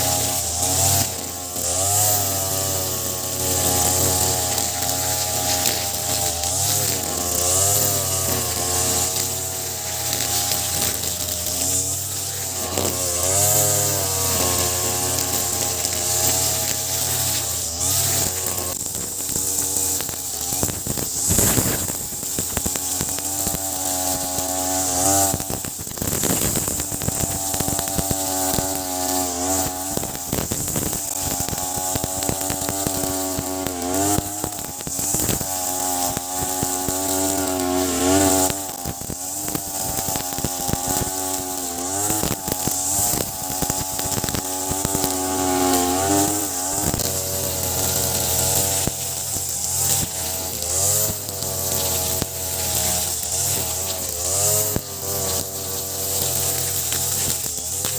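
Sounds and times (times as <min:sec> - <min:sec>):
brush cutter engine at high revs: 0:00.0 - 0:57.9
trimmer line slashing grass: 0:00.0 - 0:57.9.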